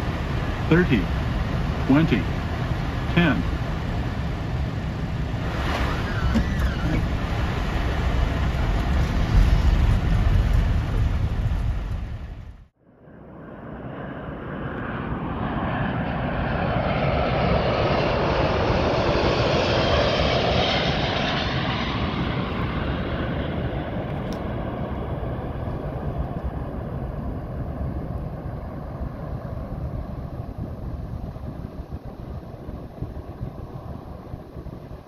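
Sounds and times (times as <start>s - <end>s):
jet airliner engines roaring: 0.0s - 35.0s.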